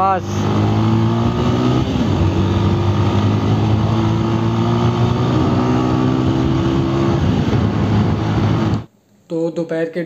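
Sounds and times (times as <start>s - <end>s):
motorcycle engine running: 0.0s - 8.9s
road noise: 0.0s - 8.9s
wind noise: 0.0s - 8.9s.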